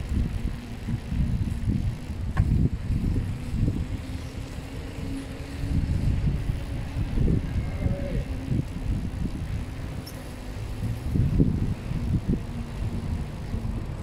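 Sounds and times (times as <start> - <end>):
road rumble: 0.0 - 14.0
steady low hum: 0.0 - 14.0
wind buffeting microphone: 0.0 - 14.0.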